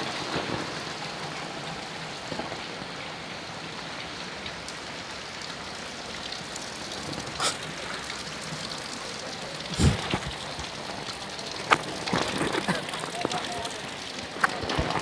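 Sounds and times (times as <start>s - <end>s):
rain on standing water: 0.0s - 15.0s.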